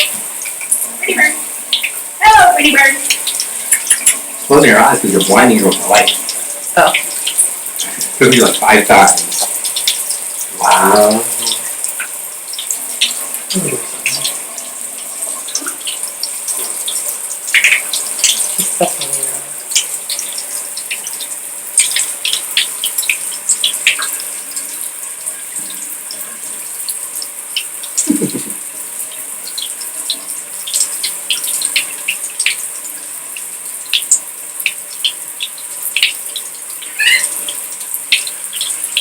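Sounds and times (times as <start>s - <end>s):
shower water spraying: 0.0s - 39.0s
water drips pattering: 0.0s - 39.0s.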